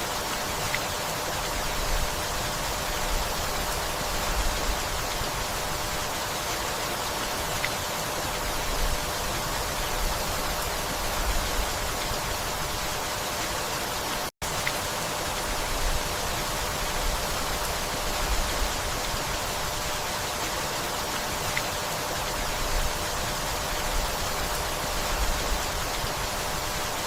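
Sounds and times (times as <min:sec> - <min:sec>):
steady rainfall: 0:00.0 - 0:27.0.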